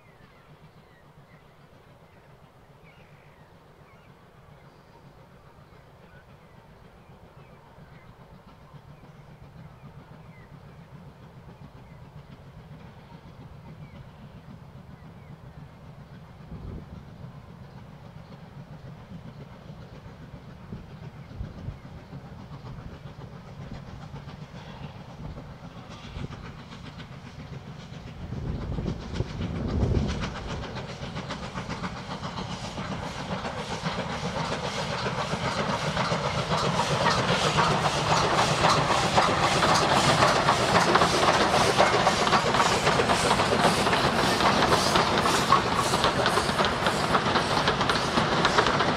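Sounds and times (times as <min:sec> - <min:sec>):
steam locomotive exhaust beats: 0:00.0 - 0:48.9
train wheels clicking over rail joints: 0:06.9 - 0:48.9.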